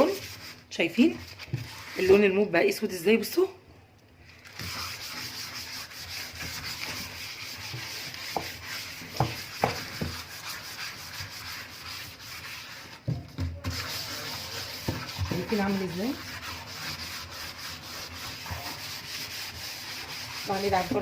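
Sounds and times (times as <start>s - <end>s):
foil scrubbing metal sink: 0.0s - 2.6s, 4.4s - 21.0s.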